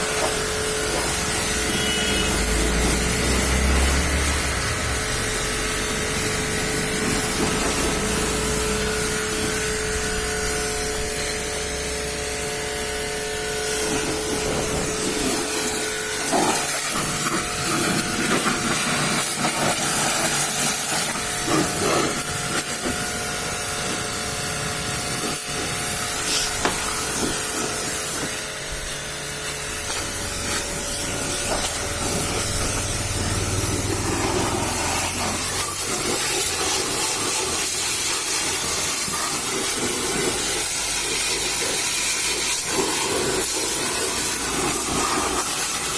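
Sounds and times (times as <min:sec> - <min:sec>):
water jet spraying hiss: 0:00.0 - 0:45.9.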